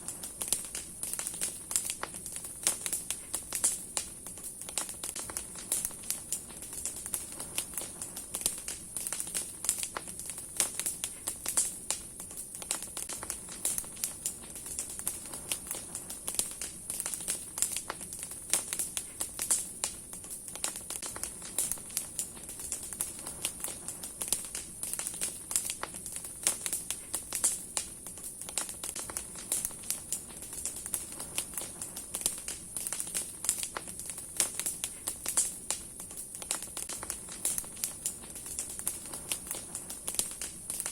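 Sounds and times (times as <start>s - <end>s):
bonfire crackling and popping: 0.0s - 40.9s
hiss of flame: 0.0s - 40.9s.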